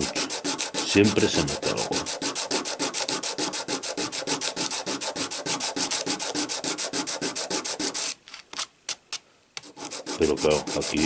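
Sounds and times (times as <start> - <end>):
coin rubbed on sandpaper: 0.0 - 8.2, 9.6 - 11.0.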